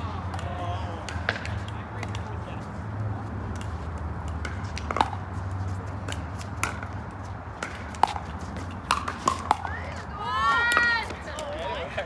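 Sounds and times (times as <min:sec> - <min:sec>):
paddles striking pickleball: 0:00.1 - 0:02.5, 0:03.5 - 0:05.3, 0:05.9 - 0:11.9.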